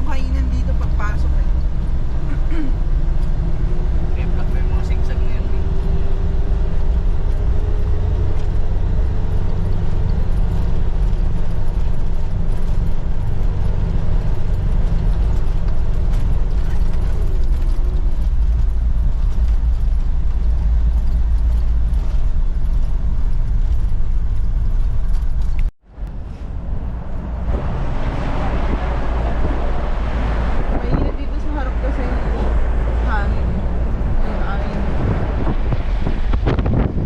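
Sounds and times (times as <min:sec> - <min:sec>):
vehicle driving along road: 0:00.0 - 0:37.0.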